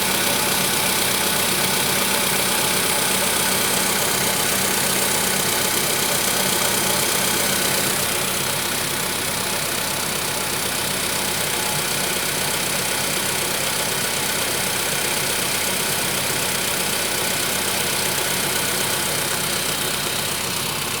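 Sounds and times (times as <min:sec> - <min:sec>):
car engine idling with knock: 0:00.0 - 0:21.0.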